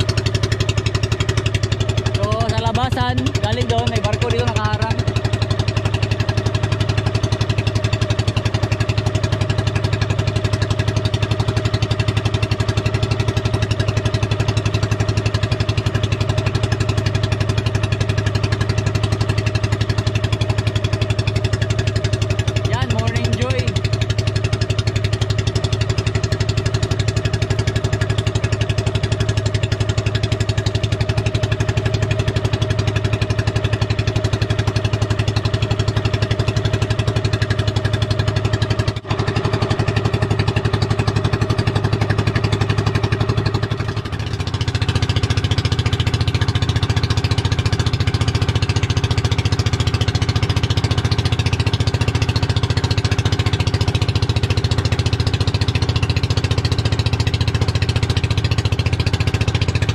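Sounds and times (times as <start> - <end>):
boat engine puttering: 0.0 - 59.9.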